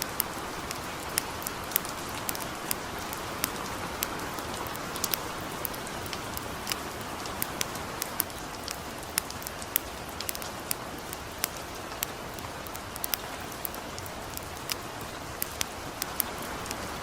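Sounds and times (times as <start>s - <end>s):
campfire crackling and popping: 0.0s - 17.0s
light rain: 0.0s - 17.0s.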